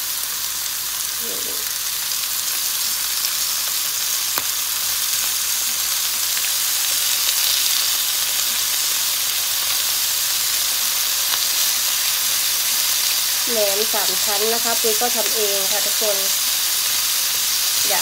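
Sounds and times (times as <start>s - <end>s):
pork sizzling in a frying pan: 0.0s - 18.0s.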